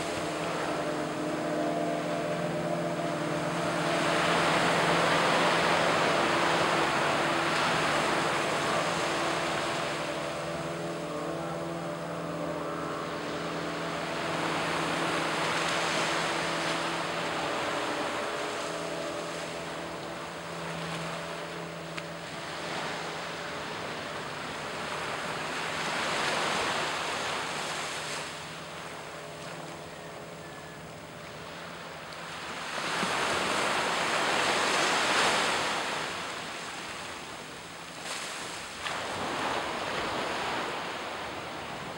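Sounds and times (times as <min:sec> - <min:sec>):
waves breaking on sandy beach: 0:00.0 - 0:41.9.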